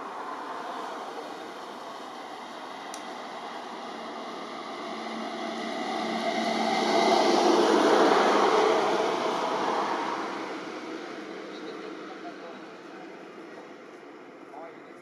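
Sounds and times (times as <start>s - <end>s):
vehicle passing by: 0.0s - 13.8s.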